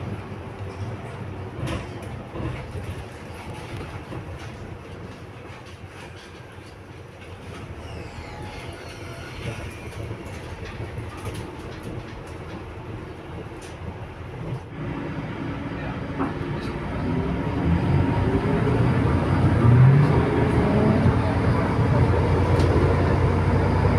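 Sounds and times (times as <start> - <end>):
bus body rattling: 0.0 - 14.7, 18.7 - 23.9
bus engine running: 0.0 - 23.9.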